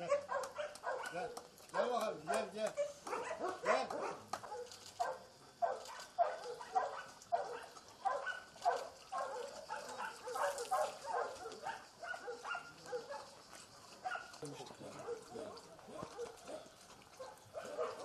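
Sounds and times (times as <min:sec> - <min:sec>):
dogs barking: 0:00.0 - 0:18.0.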